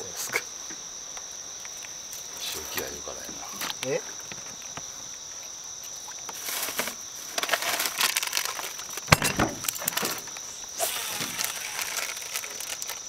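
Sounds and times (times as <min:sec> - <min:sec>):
insect drone: 0:00.0 - 0:13.0
crackly handling noise: 0:01.1 - 0:13.0.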